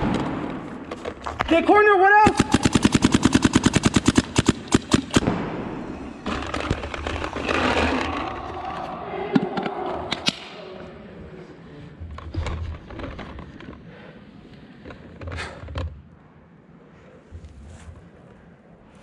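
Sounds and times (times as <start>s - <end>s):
indistinct noise: 2.3s - 19.0s.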